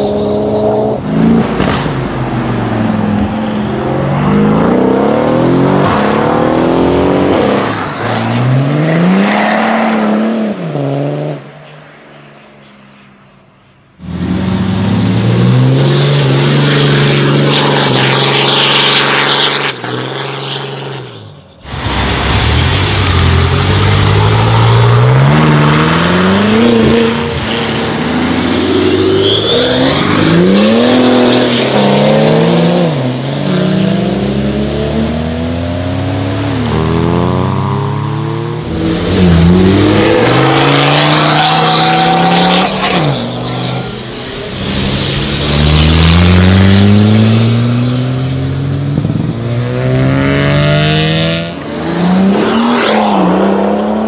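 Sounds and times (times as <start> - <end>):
car engines accelerating hard: 0.0 - 11.6, 14.0 - 54.0.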